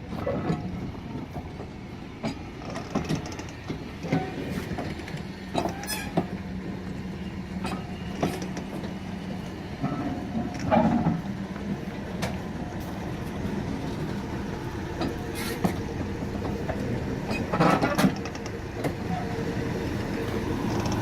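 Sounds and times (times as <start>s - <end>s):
low engine drone: 0.0s - 21.0s
train wheels and couplings clanking: 0.0s - 21.0s.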